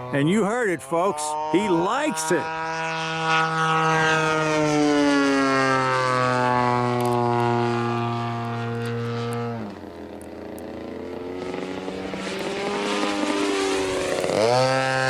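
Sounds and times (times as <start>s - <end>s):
model airplane engine flying past: 0.0s - 15.0s.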